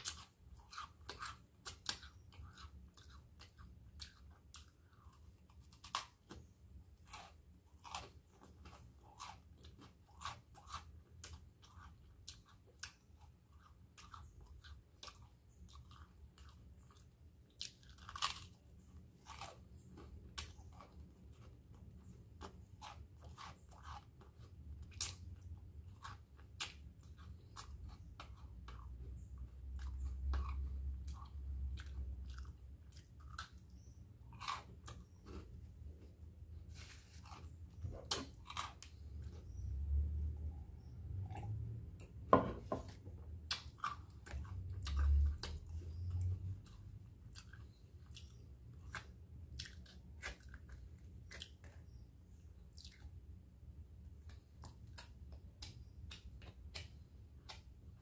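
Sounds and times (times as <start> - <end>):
crunching and chewing toast: 0.0 - 39.7, 42.8 - 58.0.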